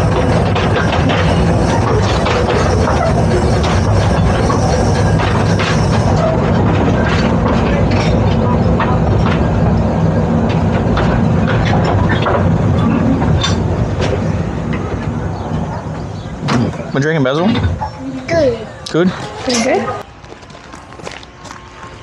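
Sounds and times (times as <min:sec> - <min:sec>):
railway carriage rumble and clatter: 0:00.0 - 0:22.0.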